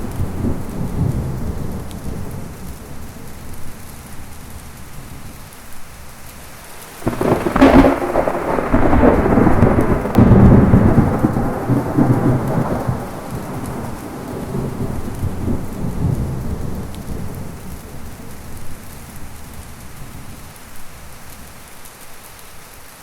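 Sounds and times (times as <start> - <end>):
thunder clap and rumble: 0.0 - 21.6
heavy rain: 0.0 - 23.0.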